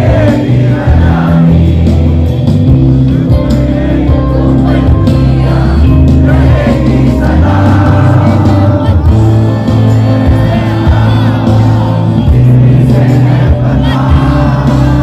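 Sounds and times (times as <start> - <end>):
crowd singing along: 0.0 - 15.0
live band music with singing: 0.0 - 15.0.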